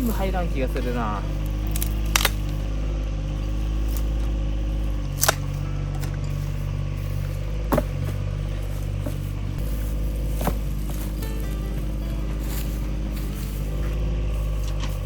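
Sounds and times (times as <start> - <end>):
dry twigs snapping: 0.0 - 15.0
low motor hum: 0.0 - 15.0.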